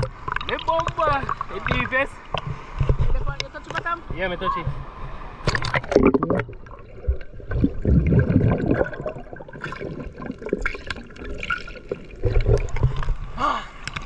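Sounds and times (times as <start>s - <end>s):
water splashing and gurgling: 0.0s - 14.0s.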